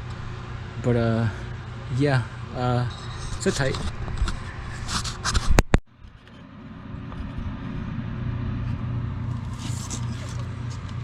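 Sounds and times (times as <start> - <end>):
cooler fan blowing air: 0.0 - 11.0.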